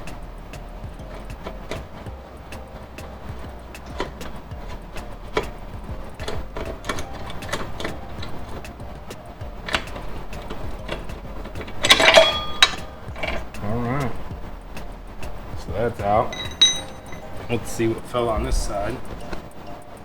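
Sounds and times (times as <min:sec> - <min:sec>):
metal clicks and knocks: 0:00.0 - 0:20.0
ringing metallic clatter: 0:00.0 - 0:20.0.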